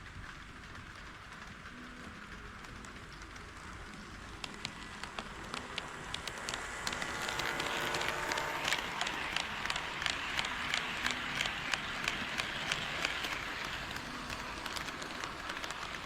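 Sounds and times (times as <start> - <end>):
faint motor whine: 0.0 - 16.0
model train wheels clicking: 0.0 - 16.0.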